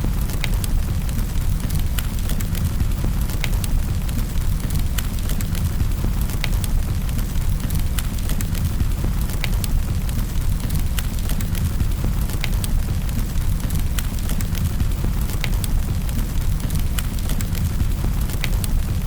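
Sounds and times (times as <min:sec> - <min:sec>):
low rumble of burning logs: 0:00.0 - 0:19.0
wood fire crackling: 0:00.0 - 0:19.0.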